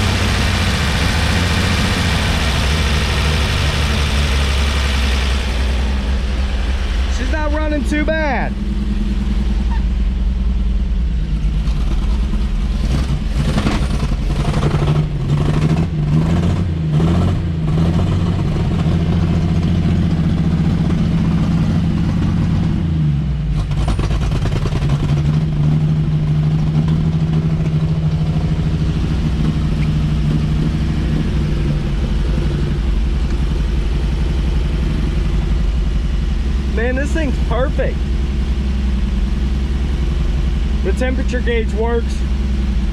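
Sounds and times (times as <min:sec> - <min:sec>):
engine throttle blips: 0:00.0 - 0:42.9
pickup engine running: 0:00.0 - 0:42.9.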